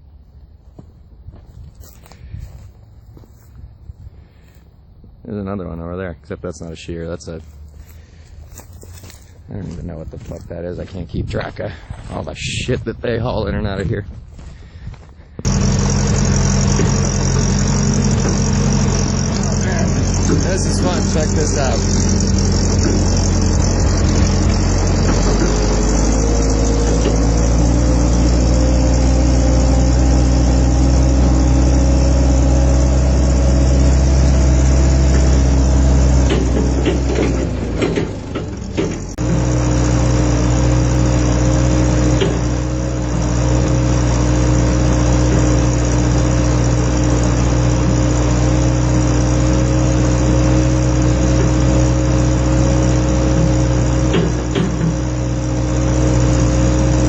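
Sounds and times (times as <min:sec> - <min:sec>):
vehicle engine running: 0:07.4 - 0:12.8, 0:14.3 - 0:57.0.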